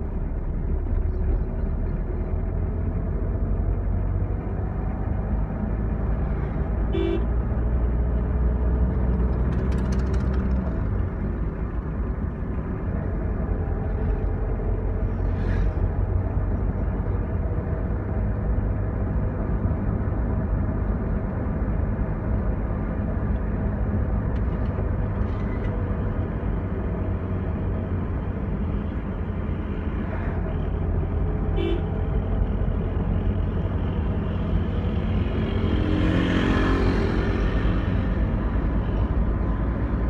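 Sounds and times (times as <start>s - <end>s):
vehicle engine and road noise: 0.0s - 40.0s.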